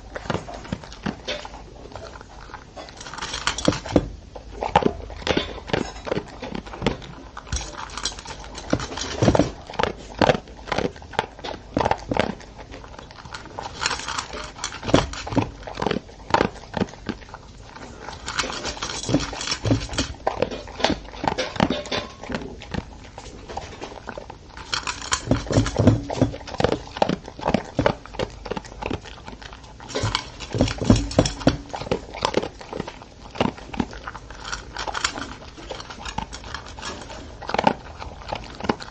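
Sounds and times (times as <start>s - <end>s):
dog crunching dry kibble: 0.0s - 38.9s
kibble clicking on metal bowl: 0.0s - 38.9s.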